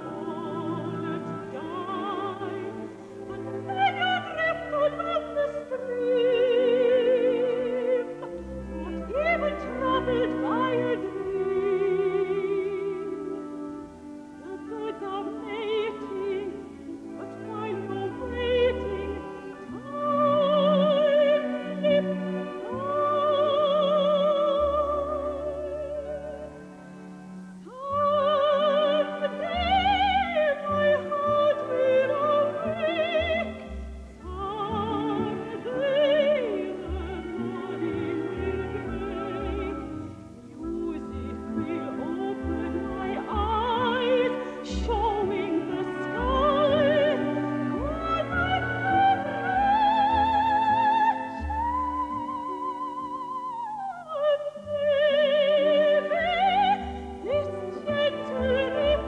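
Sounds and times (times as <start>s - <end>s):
soprano singing: 0.0s - 59.0s.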